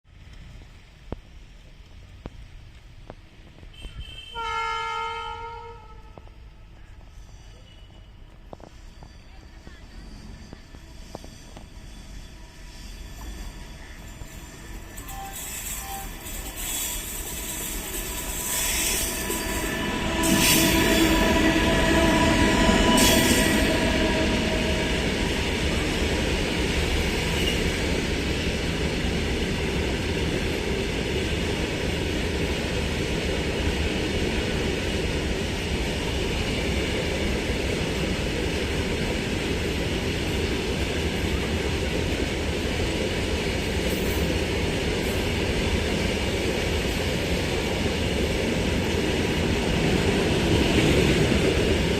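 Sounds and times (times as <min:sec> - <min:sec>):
train wagons rumbling on rails: 0:01.5 - 0:51.9.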